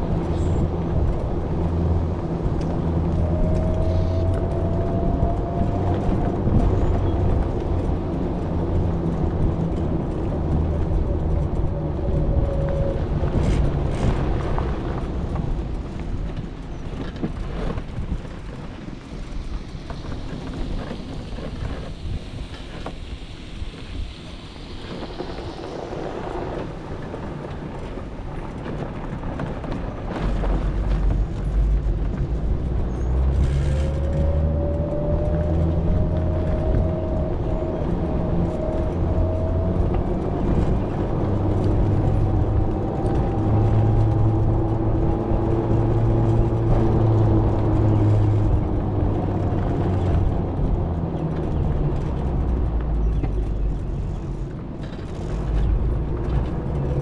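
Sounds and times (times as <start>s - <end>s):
vehicle motor hum: 0.0s - 57.0s
wind and road noise: 0.0s - 57.0s.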